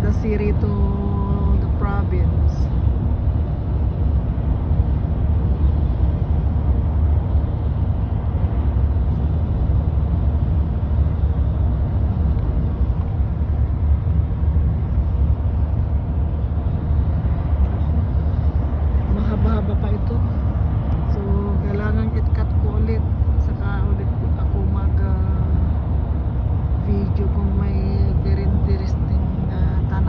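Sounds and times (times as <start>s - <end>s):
road and engine rumble in car: 0.0s - 30.0s.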